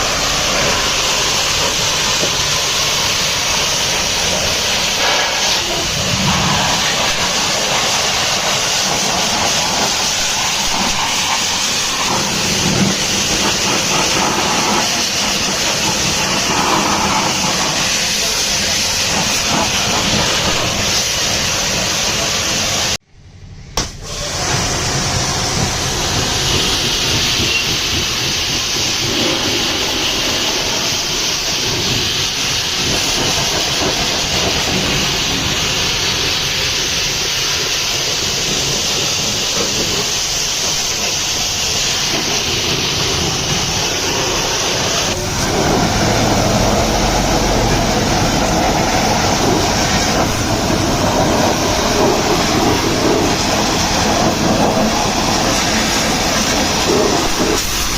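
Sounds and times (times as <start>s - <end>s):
water jet spraying: 0.0s - 23.0s, 23.8s - 57.9s.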